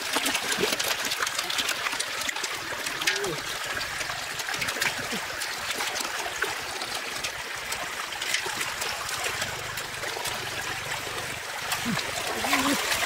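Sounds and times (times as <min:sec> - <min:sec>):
small splashes and drips: 0:00.0 - 0:13.0
water trickling: 0:00.0 - 0:13.0.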